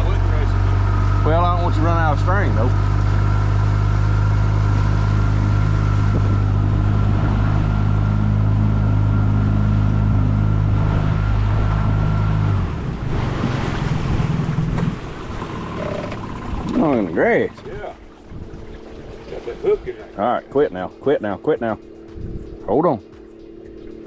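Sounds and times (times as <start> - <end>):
outboard motor running: 0.0 - 24.0
water splashing around hull: 0.2 - 24.0.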